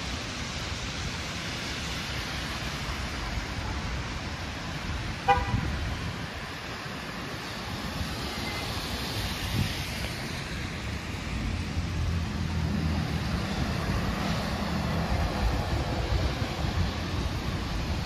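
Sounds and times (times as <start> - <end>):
tyres hissing on wet road: 0.0 - 18.0.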